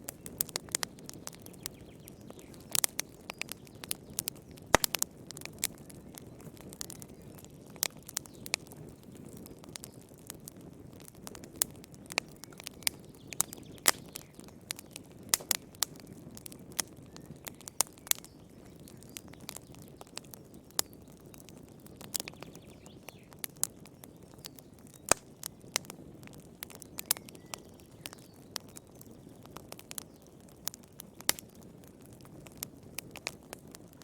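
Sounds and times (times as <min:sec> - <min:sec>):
fire pops and snaps: 0:00.0 - 0:34.0
low rumble of flames: 0:00.0 - 0:34.0.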